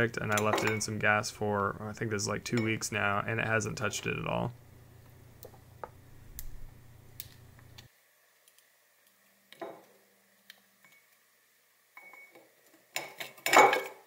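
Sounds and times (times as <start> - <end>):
low background hum: 0.0 - 13.7.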